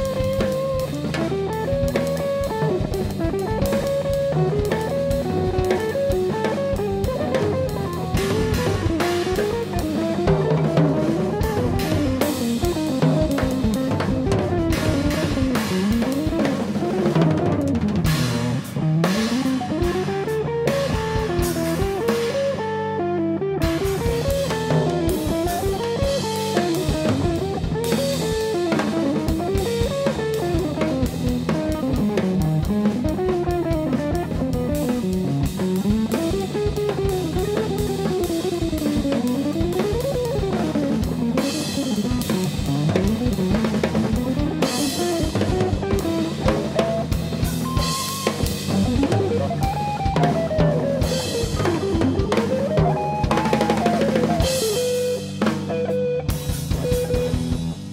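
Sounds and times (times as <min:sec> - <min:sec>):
drum kit: 0:00.0 - 0:57.9
electric guitar melody: 0:00.0 - 0:57.9.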